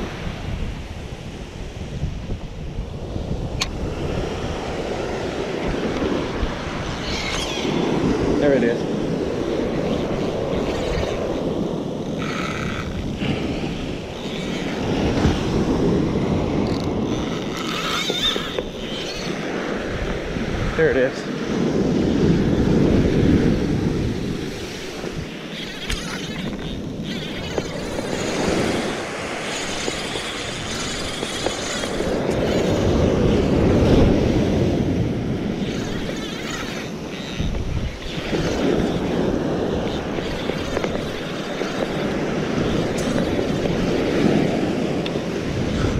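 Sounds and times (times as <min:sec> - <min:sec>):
small waves breaking on beach: 0:00.0 - 0:18.0, 0:18.6 - 0:45.9
wind on microphone: 0:00.0 - 0:45.9.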